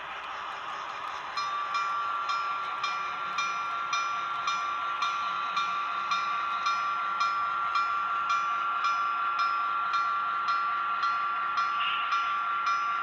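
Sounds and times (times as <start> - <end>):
model train motor whine: 0.0 - 13.0.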